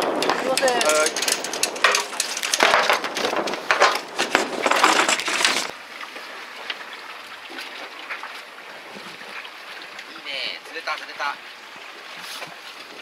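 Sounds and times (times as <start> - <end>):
faint wind: 0.0 - 13.0.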